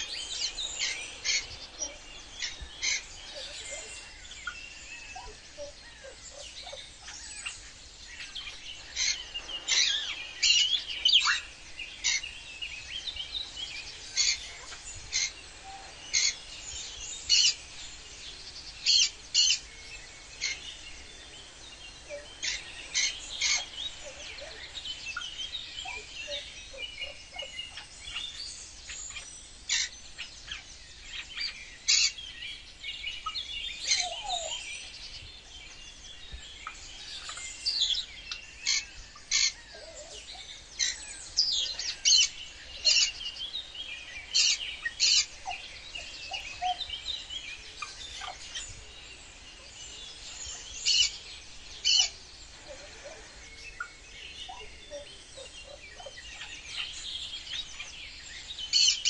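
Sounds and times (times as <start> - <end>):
wild birds chirping: 0.0 - 59.0.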